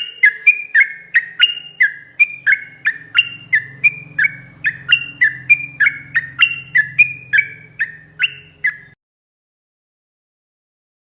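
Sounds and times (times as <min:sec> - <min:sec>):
bird singing sharp falling chirps: 0:00.0 - 0:09.0
faint low hum: 0:00.0 - 0:09.0.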